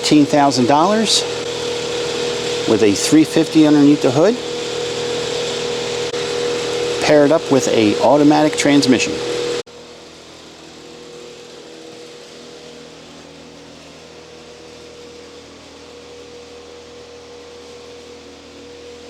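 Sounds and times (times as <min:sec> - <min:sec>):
room tone hum and hiss: 0:00.0 - 0:19.0.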